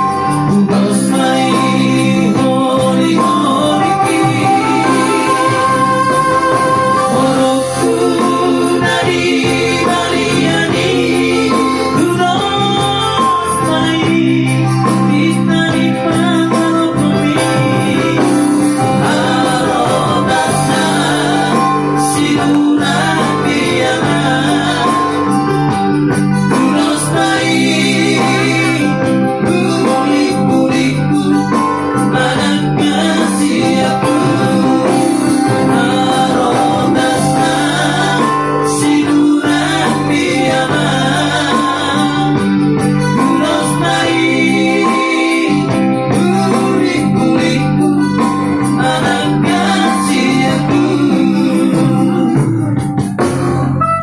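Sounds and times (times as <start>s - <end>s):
men singing into microphones: 0.0s - 53.2s
electronic keyboard: 0.0s - 54.0s.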